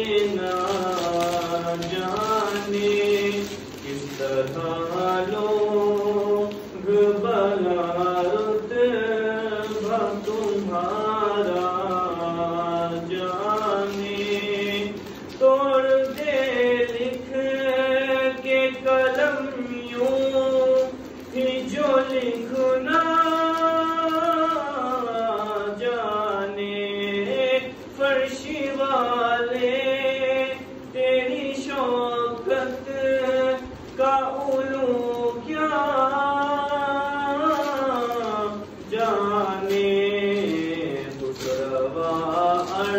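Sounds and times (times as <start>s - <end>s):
man singing unaccompanied: 0.0s - 42.9s.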